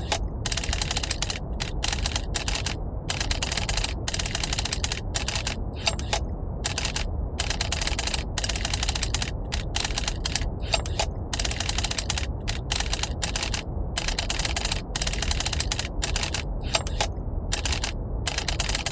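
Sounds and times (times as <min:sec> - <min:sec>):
low rumble of brown noise: 0:00.0 - 0:18.9
typewriter key strikes: 0:00.0 - 0:18.9.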